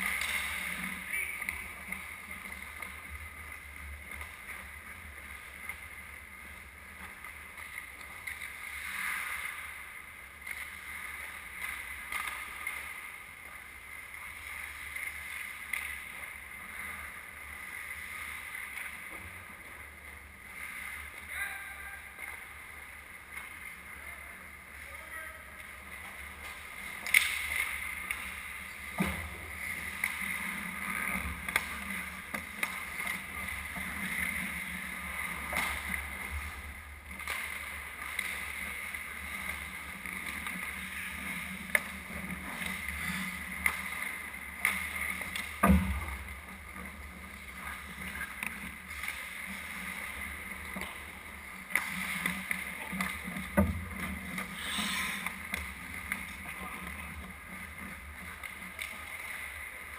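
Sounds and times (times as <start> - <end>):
skates scraping on ice: 0.0 - 21.6, 25.6 - 45.6, 46.4 - 59.9.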